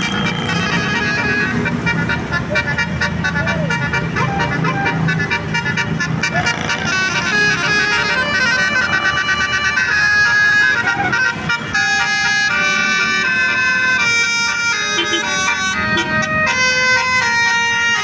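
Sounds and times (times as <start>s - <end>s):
bus engine rumble: 0.0s - 18.0s
bus multi-trumpet horn tune: 0.0s - 18.0s.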